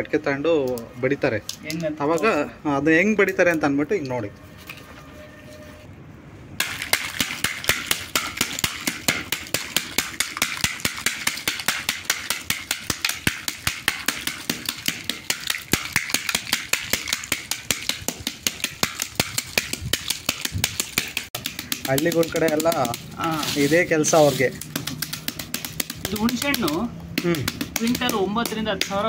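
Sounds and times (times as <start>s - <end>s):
wooden sticks beating dried pods: 0.4s - 4.3s, 6.6s - 29.0s
brittle shells crackling: 0.6s - 2.5s, 6.6s - 29.0s.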